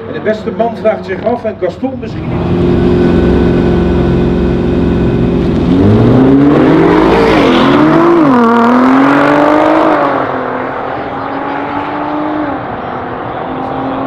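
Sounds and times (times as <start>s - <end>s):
car engines revving high: 0.0s - 14.0s
cars accelerating hard with upshifts: 2.1s - 14.0s.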